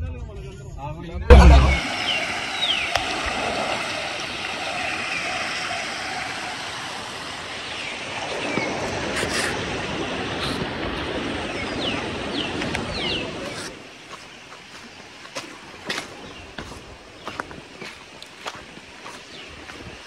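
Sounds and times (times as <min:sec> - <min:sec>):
water rushing over rocks: 0:01.3 - 0:20.0
falling bird calls: 0:01.5 - 0:20.0.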